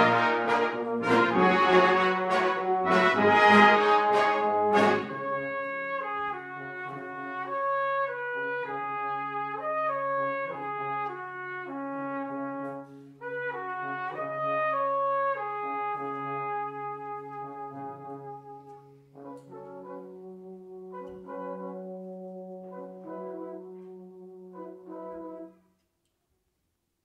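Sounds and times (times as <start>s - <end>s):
brass band playing: 0.0s - 25.6s.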